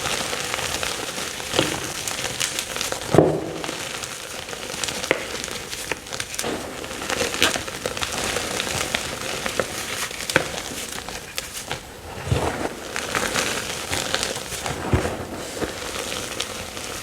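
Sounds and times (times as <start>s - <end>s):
chalk blocks being crushed: 0.3s - 17.0s.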